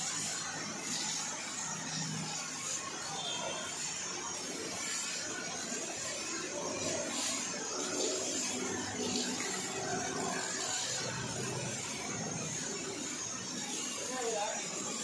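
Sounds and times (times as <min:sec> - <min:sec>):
pressure washer jet hissing: 0:00.0 - 0:15.0.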